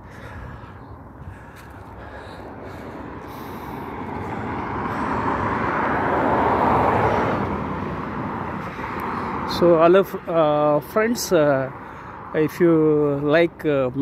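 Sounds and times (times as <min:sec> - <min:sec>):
vehicle passing by: 0:00.0 - 0:14.0.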